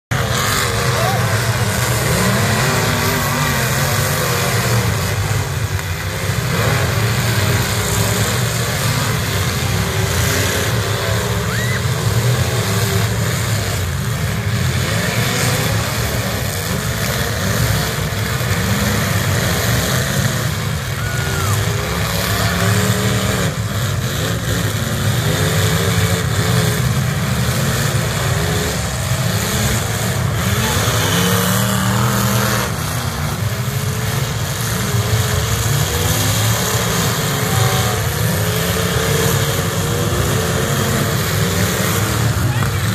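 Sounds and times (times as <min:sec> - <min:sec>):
stock car engines revving: 0:00.0 - 0:42.9.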